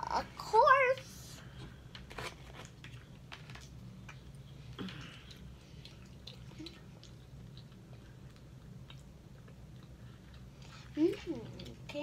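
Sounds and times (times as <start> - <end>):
person chewing: 1.8 - 12.0.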